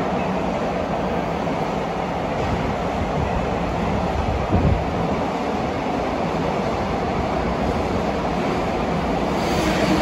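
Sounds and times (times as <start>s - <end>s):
freight train passing: 0.0s - 10.0s
steel wheels on rails: 1.6s - 10.0s.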